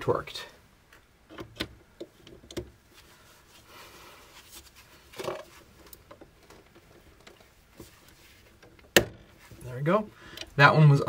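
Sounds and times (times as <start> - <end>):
sleeve rustling against wiring: 0.9 - 10.7.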